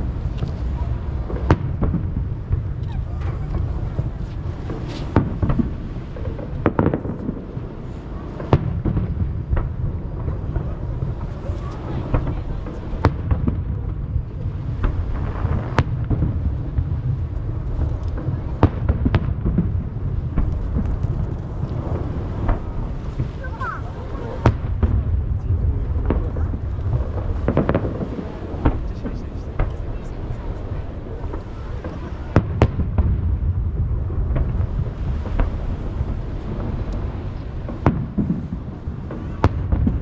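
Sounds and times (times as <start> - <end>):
continuous low rumble: 0.0 - 40.0
fireworks bangs and crackles: 0.0 - 40.0.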